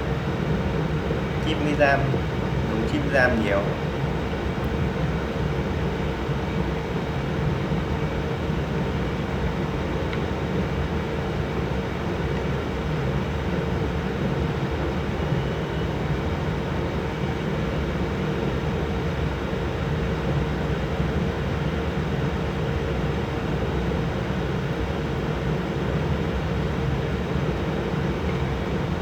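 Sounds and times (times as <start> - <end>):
computer cooling fans whirring: 0.0 - 29.0.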